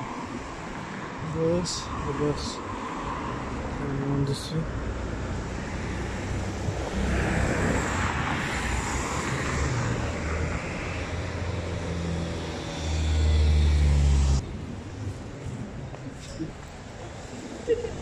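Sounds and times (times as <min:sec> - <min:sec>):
cars passing with tyre hiss: 0:00.0 - 0:18.0.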